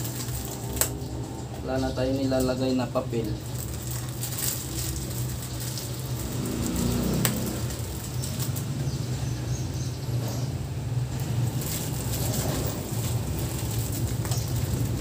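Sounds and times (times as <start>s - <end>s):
plastic bags crinkling: 0.0s - 8.9s, 11.1s - 15.0s.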